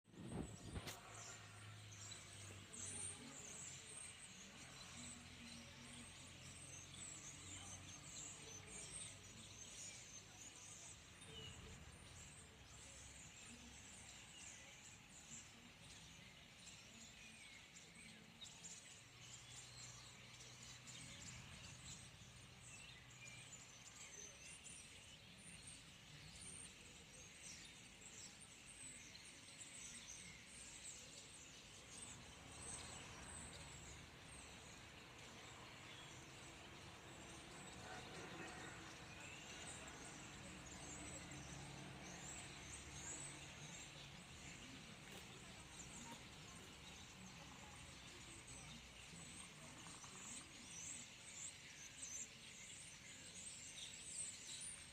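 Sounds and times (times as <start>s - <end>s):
flock of birds chirping: 0.0s - 54.9s.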